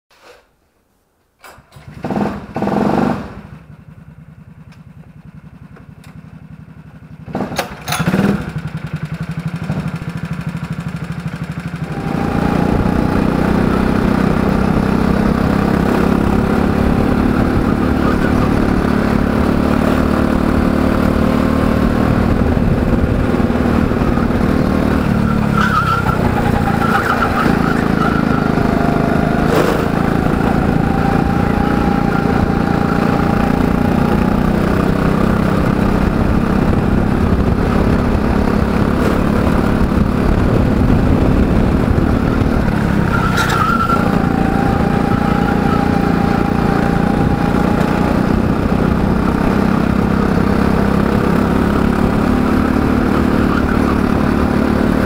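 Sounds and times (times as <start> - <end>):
go-kart engine revving: 1.7 - 4.5, 5.4 - 55.0.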